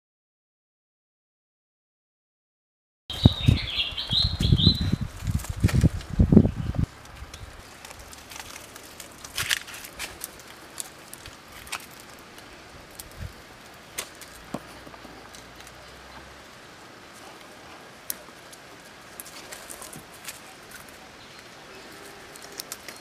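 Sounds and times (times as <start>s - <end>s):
dry twigs clicking and crackling: 3.1s - 23.0s.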